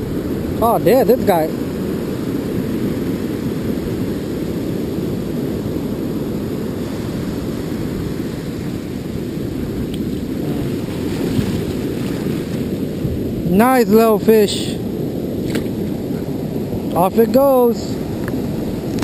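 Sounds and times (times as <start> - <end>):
ocean surf rumble: 0.0 - 19.0.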